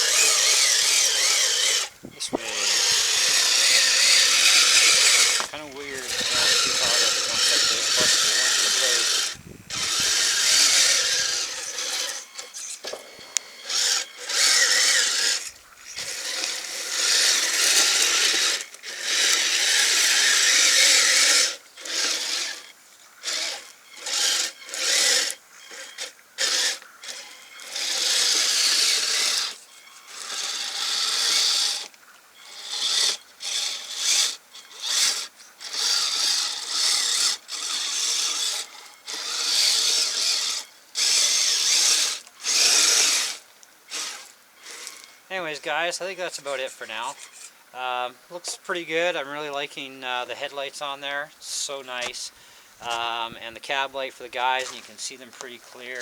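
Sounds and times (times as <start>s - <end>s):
toy snowcat motor and tracks: 0.0s - 56.0s.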